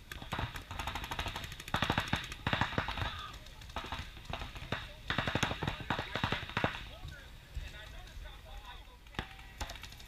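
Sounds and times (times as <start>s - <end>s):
paintball markers firing: 0.0s - 7.2s, 9.1s - 10.0s.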